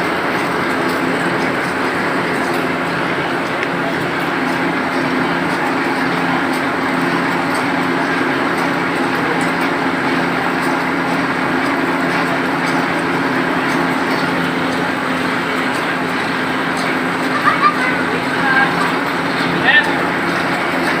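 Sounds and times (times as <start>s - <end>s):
constant rushing noise: 0.0s - 21.0s
screen-printing machine humming: 0.0s - 21.0s.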